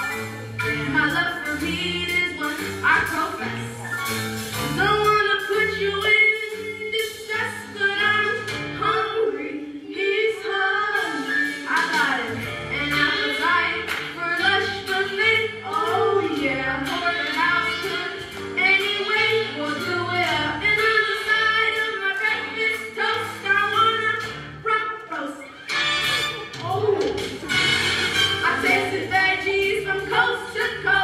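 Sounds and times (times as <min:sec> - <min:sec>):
musical theatre song: 0:00.0 - 0:31.0.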